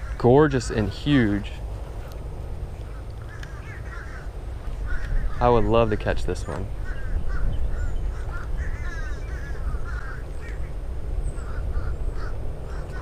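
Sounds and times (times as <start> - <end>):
birds making harsh calls: 0.0 - 13.0
wind rumbling on microphone: 0.0 - 13.0.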